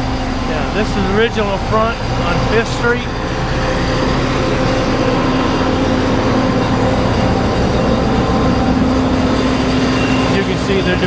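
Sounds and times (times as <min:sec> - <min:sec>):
machinery engine running: 0:00.0 - 0:11.0.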